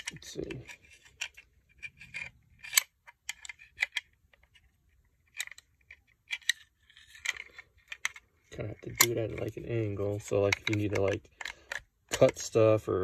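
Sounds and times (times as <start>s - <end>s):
metal bayonet clicks and scrapes: 0.0s - 12.3s.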